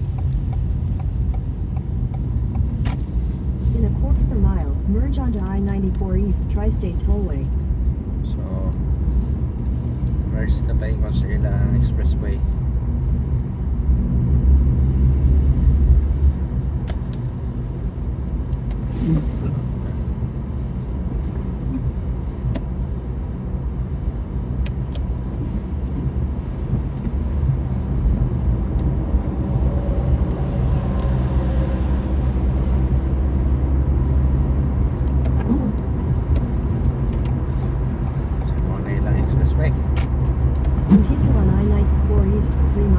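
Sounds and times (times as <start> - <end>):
car road noise rumble: 0.0 - 42.9.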